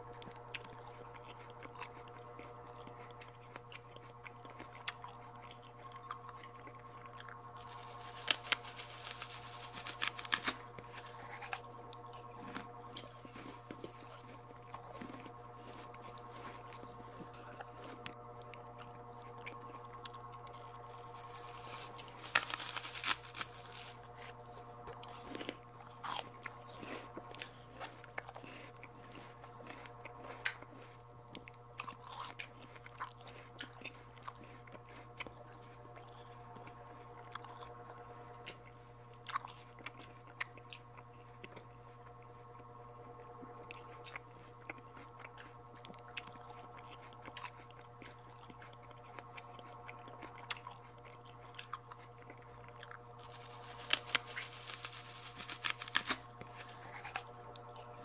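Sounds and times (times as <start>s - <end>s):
biting and chewing: 0.0s - 58.0s
steady low hum: 0.0s - 58.0s.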